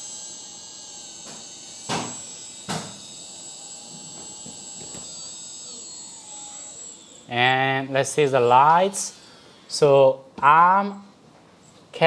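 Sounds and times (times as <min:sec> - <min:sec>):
high-pitched pump whine: 0:00.0 - 0:09.9.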